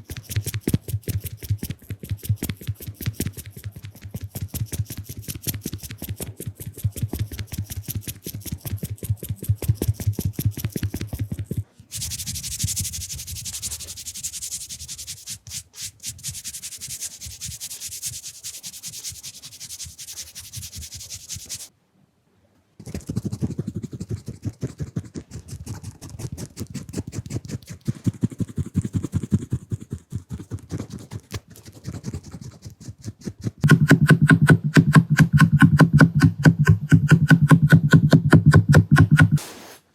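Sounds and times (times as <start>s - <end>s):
makeup brushes rubbing microphone: 0.0s - 21.7s, 22.8s - 39.6s.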